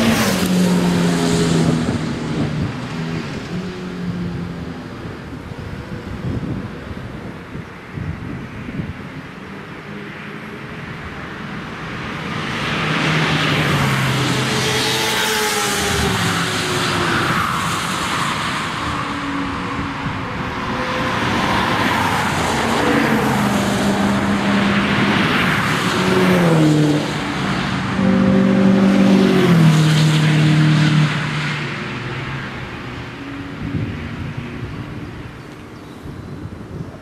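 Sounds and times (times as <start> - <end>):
race cars driving past: 0.0 - 6.2, 9.4 - 36.8.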